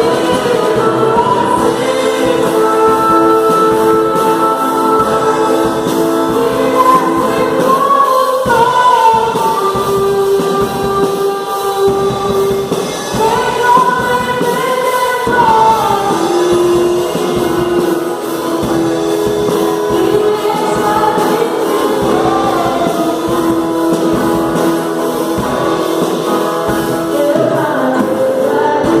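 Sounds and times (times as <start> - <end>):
choir singing gospel: 0.0 - 29.0.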